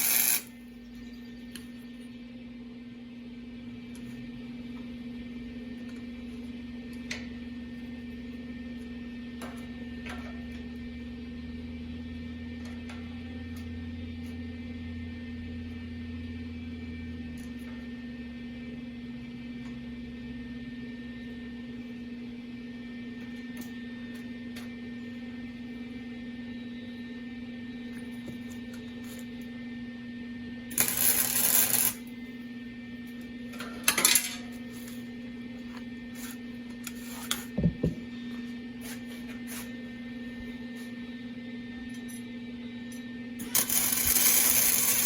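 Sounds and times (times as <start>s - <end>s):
steady electrical hum: 0.0s - 45.0s.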